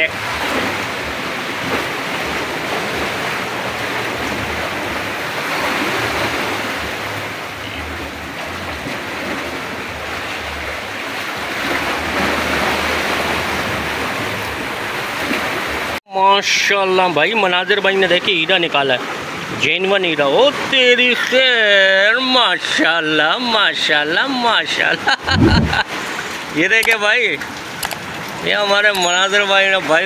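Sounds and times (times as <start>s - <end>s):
sea waves washing against shore: 0.0s - 16.0s, 18.0s - 30.0s.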